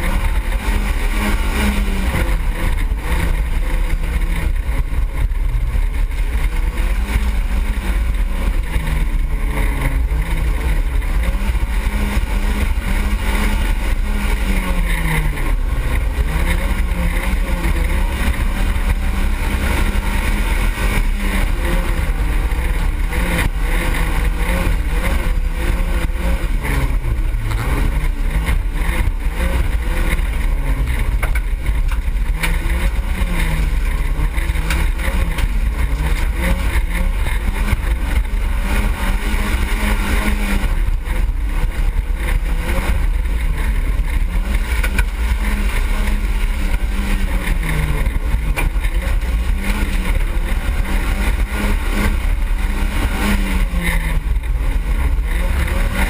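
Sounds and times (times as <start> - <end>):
heavy low rumble: 0.0 - 56.0
race car engine revving: 0.0 - 56.0.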